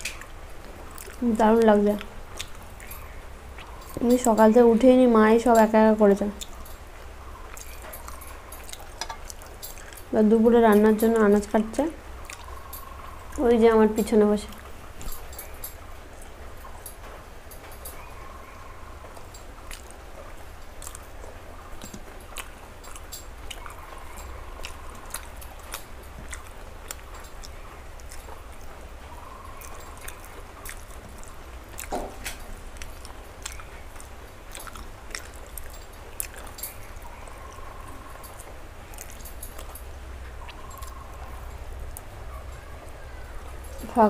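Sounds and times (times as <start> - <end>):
chewing and wet mouth clicks: 0.0 - 4.6, 5.5 - 13.4, 19.0 - 42.1
low steady hum: 0.0 - 44.0.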